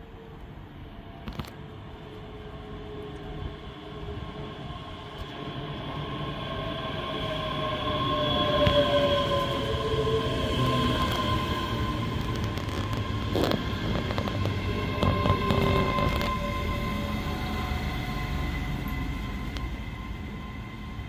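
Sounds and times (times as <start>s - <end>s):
electric train whine: 0.0s - 21.0s
train wheels rumbling on rails: 0.0s - 21.0s.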